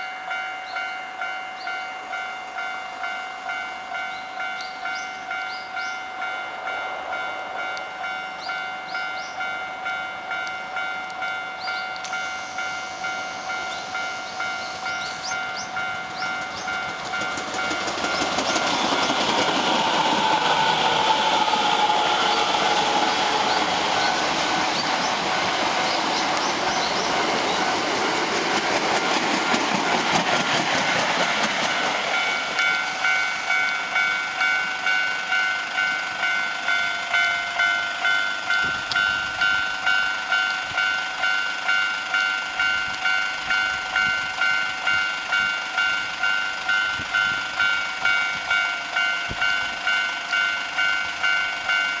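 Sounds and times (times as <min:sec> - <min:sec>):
level crossing alarm bell: 0:00.0 - 0:28.2, 0:31.9 - 0:52.0
train wheels running past: 0:04.4 - 0:52.0.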